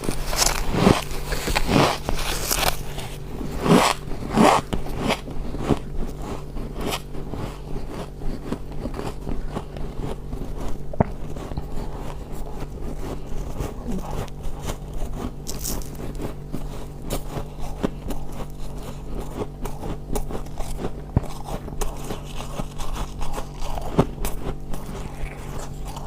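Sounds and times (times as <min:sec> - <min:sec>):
person chewing ice: 0:00.0 - 0:26.0.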